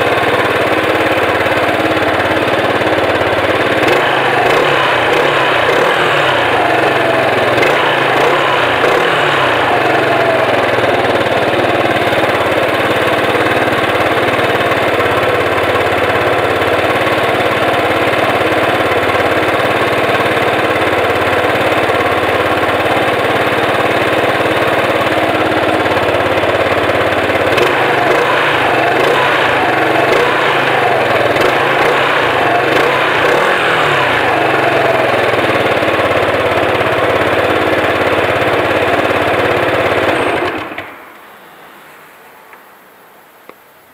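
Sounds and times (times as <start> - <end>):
scooter engine idling: 0.0 - 41.8.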